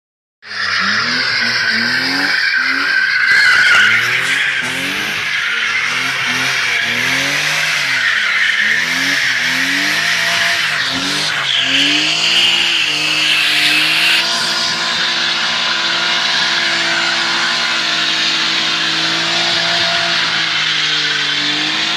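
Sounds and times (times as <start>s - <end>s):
car engine revving: 0.4s - 21.9s
tyres squealing on asphalt: 0.4s - 21.9s.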